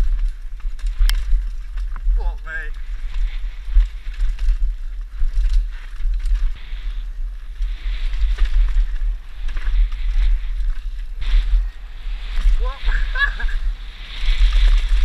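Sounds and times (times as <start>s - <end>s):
bike rattling over bumps: 0.0s - 15.0s
wind buffeting microphone: 0.0s - 15.0s.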